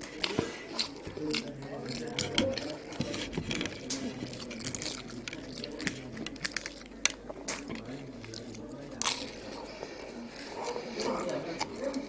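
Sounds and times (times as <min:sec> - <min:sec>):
wet chewing of pastry: 0:00.0 - 0:12.0.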